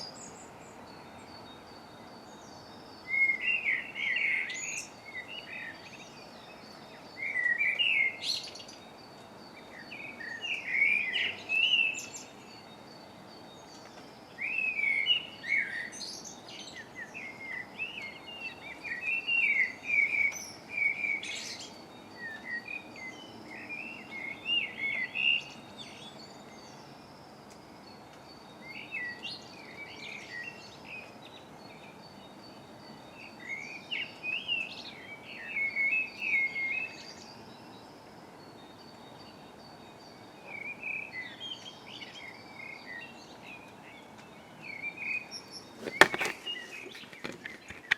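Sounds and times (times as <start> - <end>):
songbirds chirping: 0.0 - 47.9.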